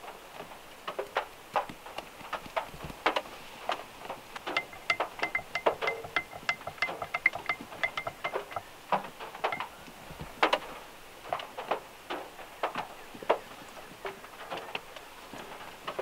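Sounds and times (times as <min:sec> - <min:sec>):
raindrops tapping on car roof: 0:00.0 - 0:16.0.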